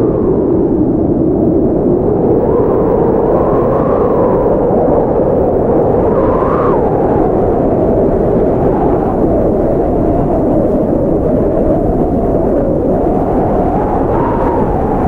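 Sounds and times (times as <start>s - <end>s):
blizzard wind whistling: 0.0s - 15.0s.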